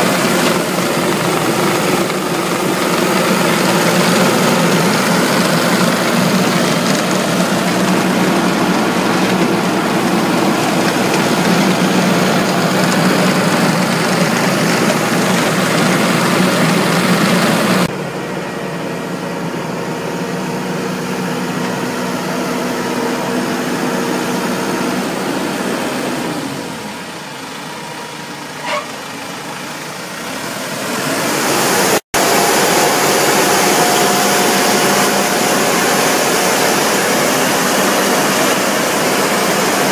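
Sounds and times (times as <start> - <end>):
harvester machine running: 0.0 - 39.9.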